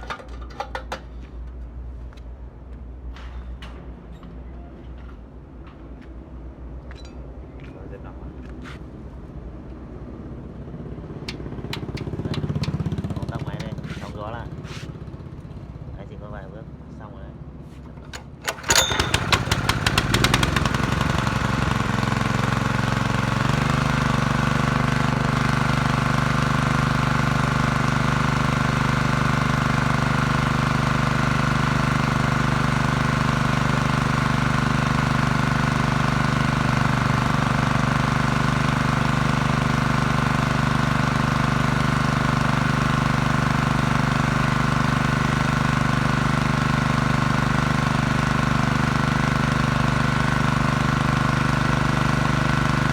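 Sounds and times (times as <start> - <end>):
generator engine running: 0.0 - 1.6, 9.9 - 52.9.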